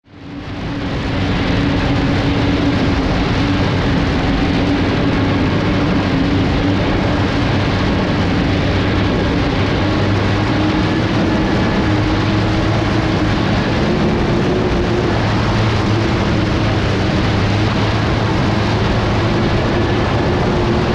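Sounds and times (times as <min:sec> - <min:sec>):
rush of wind and water: 0:00.0 - 0:20.9
turbine engine running: 0:00.0 - 0:20.9.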